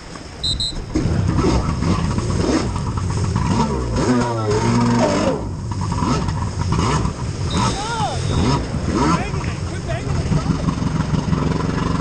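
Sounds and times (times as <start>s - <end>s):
jet ski engine revving: 0.9s - 12.0s.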